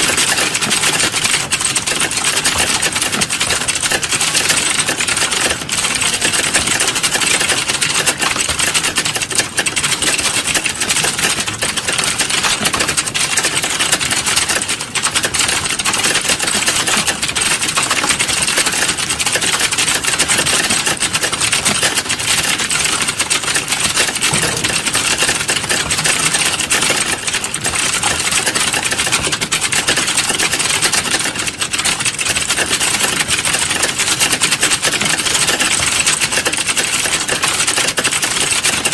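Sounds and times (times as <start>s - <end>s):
fast typing on keyboard: 0.0s - 38.9s.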